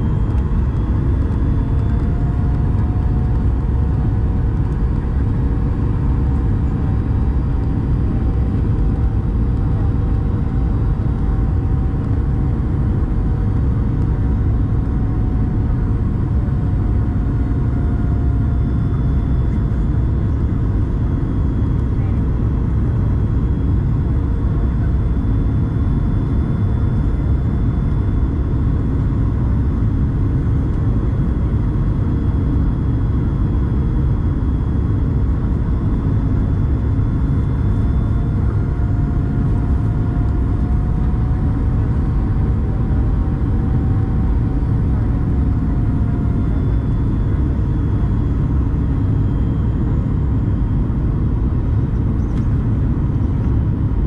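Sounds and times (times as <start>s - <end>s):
airflow noise in cabin: 0.0s - 54.0s
faint engine whine: 0.0s - 54.0s
jet engines humming: 0.0s - 54.0s.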